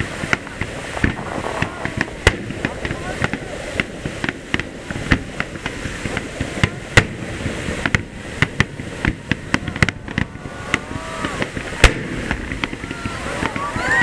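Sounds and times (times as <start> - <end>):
firework shells bursting: 0.0 - 14.0.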